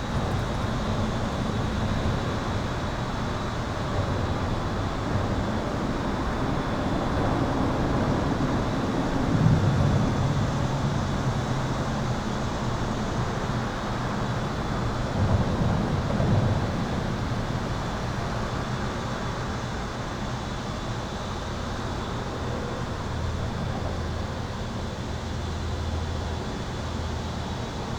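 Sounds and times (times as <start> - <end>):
highway traffic rumble: 0.0 - 27.9.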